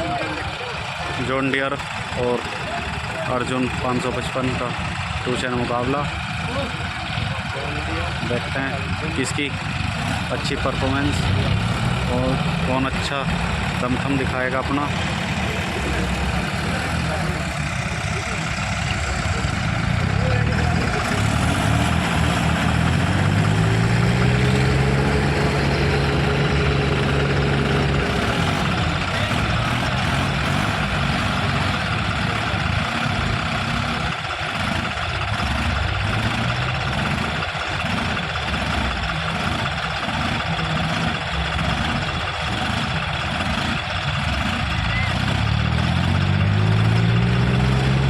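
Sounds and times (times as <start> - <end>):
tractor diesel engines under load: 0.0 - 48.0.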